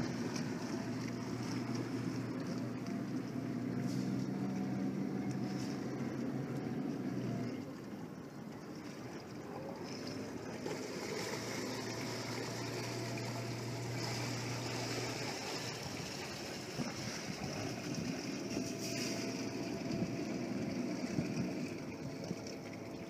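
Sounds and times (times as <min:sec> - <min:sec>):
boat engine droning: 0:00.0 - 0:23.0
water lapping: 0:00.0 - 0:23.0.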